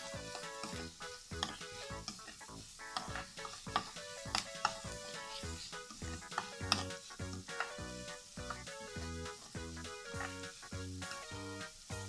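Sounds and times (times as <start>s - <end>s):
spatula scraping a metal pan: 0.0s - 11.3s
background music: 0.0s - 12.0s
onion sizzling in a pan: 0.0s - 12.0s.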